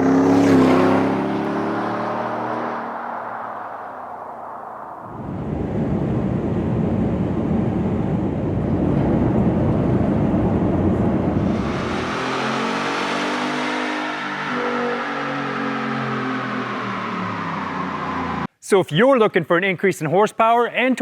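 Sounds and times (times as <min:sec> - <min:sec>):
truck exhaust rumble: 0:00.0 - 0:18.5.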